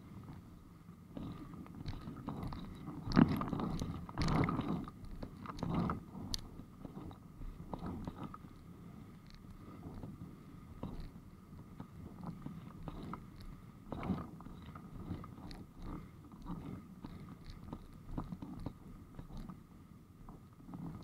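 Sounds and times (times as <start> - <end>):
board rumbling over water: 1.0 - 21.0.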